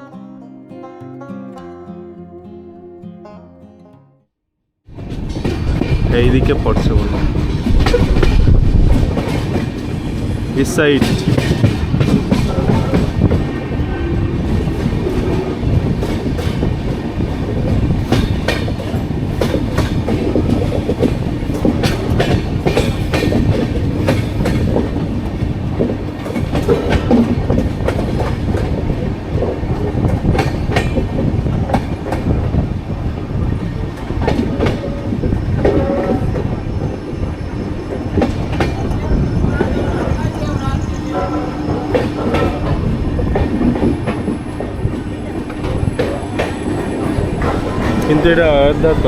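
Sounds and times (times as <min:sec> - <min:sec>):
train rumbling on rails: 0:04.9 - 0:49.0
wheels clacking over rail joints: 0:05.0 - 0:49.0.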